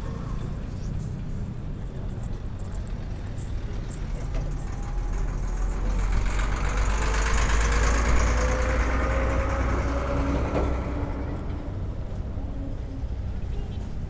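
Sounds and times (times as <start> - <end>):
diesel truck driving past: 0.0 - 14.0.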